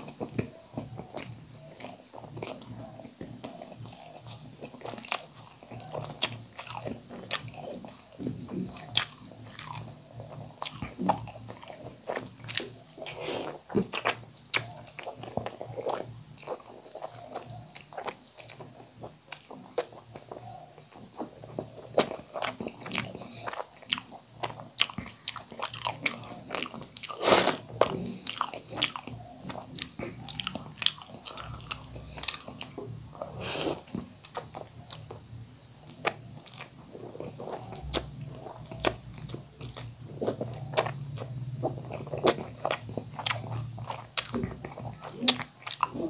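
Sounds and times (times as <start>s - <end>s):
man chewing wetly: 0.0s - 46.0s.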